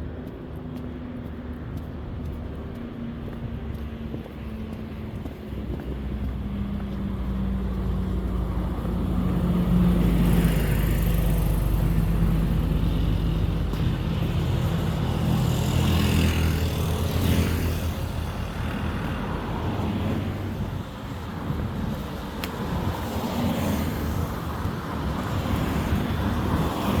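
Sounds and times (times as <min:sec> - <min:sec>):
cars passing: 0:00.0 - 0:27.0
vehicle engine humming: 0:01.9 - 0:27.0.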